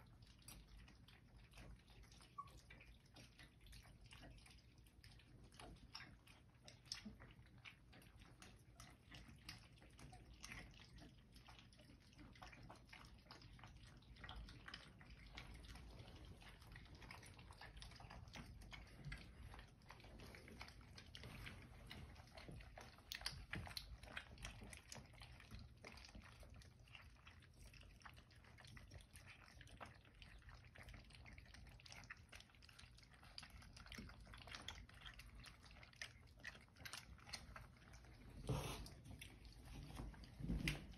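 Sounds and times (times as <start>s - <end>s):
puppies lapping and chewing food: 0.0s - 40.9s.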